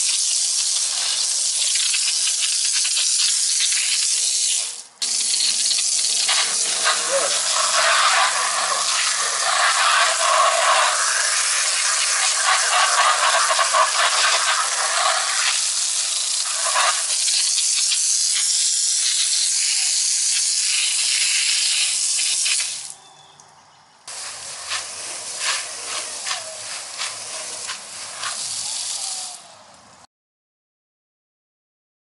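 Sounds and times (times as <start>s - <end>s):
hose spraying water on wall: 0.0s - 23.0s, 24.1s - 29.8s.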